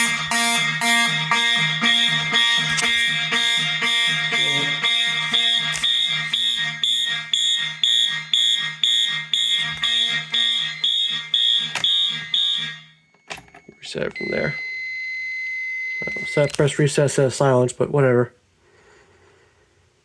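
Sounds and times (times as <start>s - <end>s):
fire alarm pulsing: 0.0s - 16.8s.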